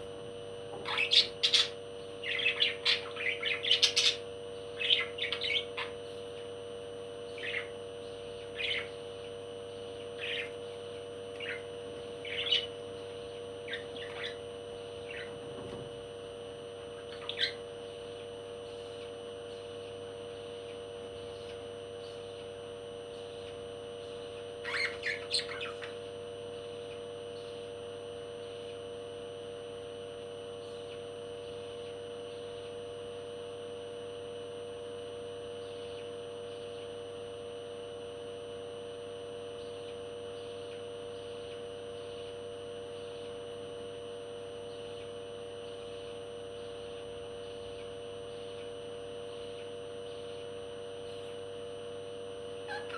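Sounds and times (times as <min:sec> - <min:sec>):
electronic hum: 0:00.0 - 0:52.9.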